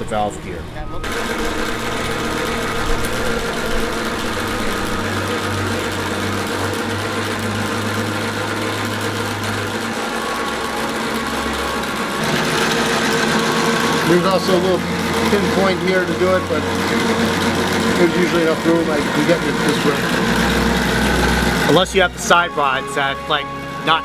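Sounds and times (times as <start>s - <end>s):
electric blower motor hum: 0.0s - 24.0s.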